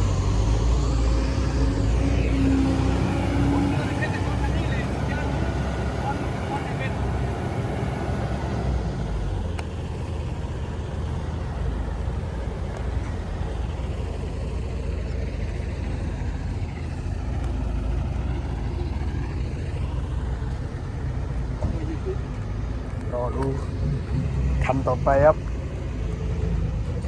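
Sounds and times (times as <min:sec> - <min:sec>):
diesel engine low rumble: 0:00.0 - 0:27.0.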